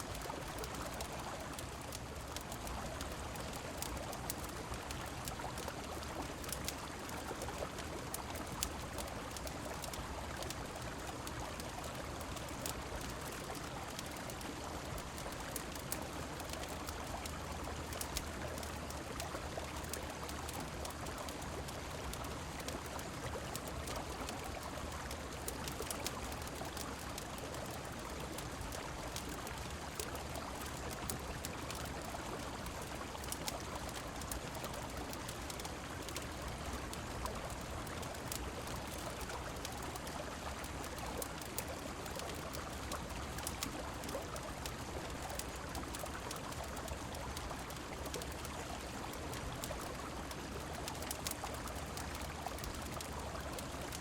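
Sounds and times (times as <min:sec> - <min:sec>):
rain: 0:00.0 - 0:54.0
river water flowing: 0:00.0 - 0:54.0
small sharp ticks: 0:00.0 - 0:54.0.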